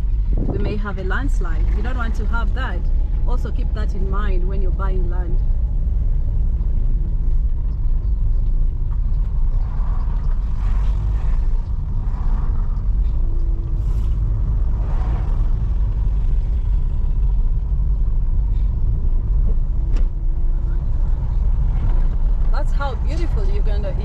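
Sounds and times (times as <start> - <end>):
vehicle road and engine rumble: 0.0 - 24.0.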